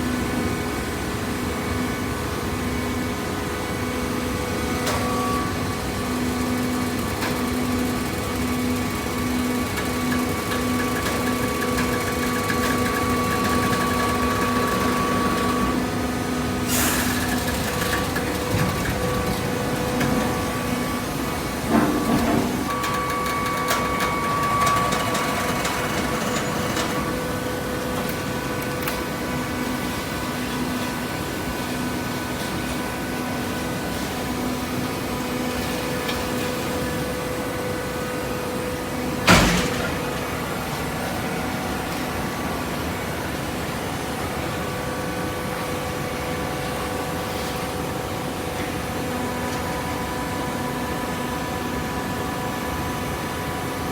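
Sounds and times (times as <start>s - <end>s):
baler mechanical hum: 0.0s - 53.9s.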